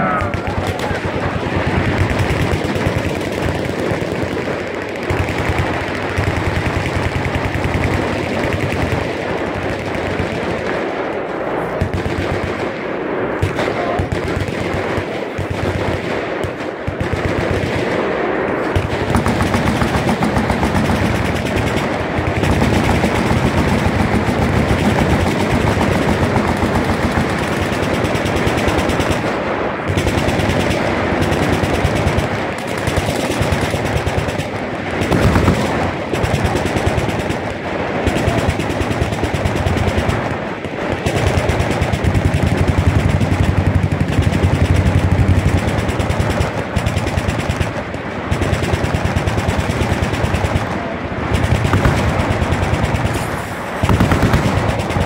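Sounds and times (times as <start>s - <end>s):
machine guns firing: 0.0s - 55.0s.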